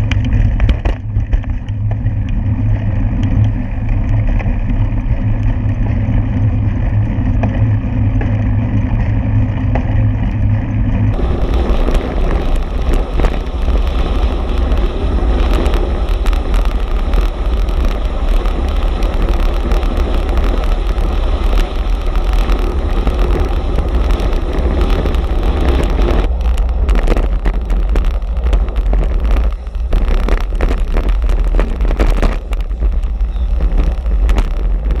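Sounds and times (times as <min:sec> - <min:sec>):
tyre and road rumble: 0:00.0 - 0:35.0
wind buffeting microphone: 0:00.0 - 0:35.0.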